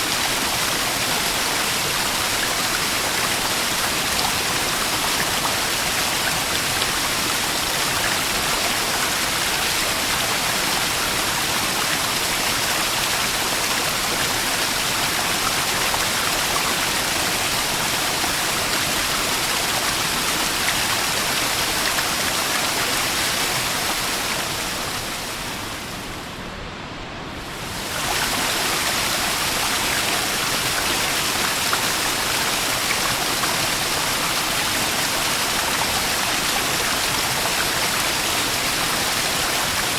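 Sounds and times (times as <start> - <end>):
small waterfall splashing: 0.0 - 25.8, 27.6 - 39.9.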